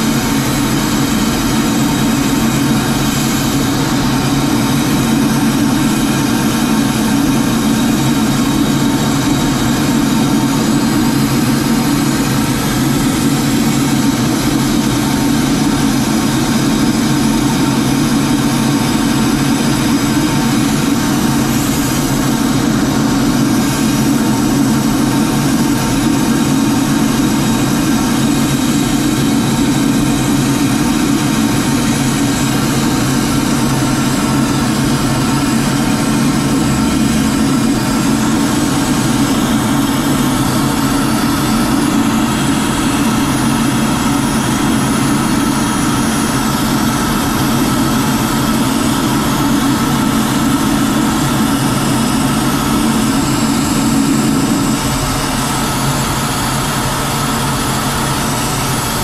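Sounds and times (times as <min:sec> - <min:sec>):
aircraft engine drone in cockpit: 0:00.0 - 0:59.0
rushing air: 0:00.0 - 0:59.0
thin steady whining tones: 0:00.0 - 0:59.0.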